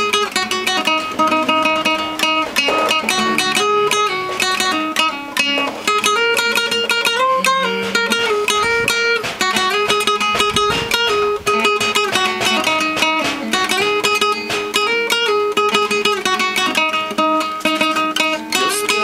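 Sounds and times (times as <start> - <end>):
plucked guitar melody: 0.0 - 19.0
strummed chords: 0.0 - 19.0.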